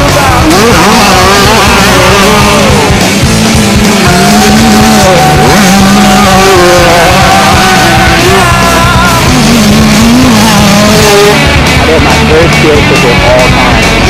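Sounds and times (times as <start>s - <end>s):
loud rock music: 0.0s - 14.0s.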